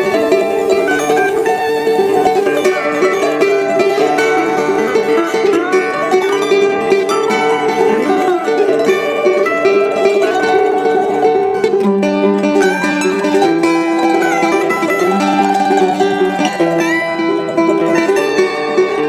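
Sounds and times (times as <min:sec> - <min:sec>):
plucked string music: 0:00.0 - 0:19.0.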